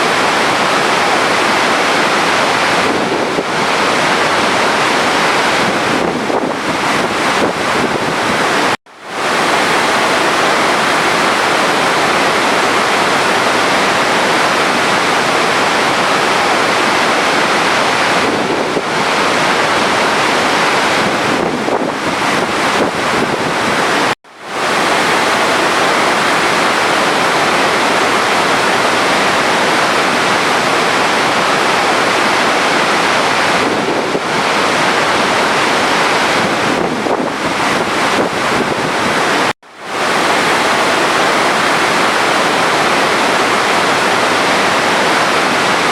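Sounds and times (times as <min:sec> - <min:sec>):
rushing running water: 0:00.0 - 0:45.9.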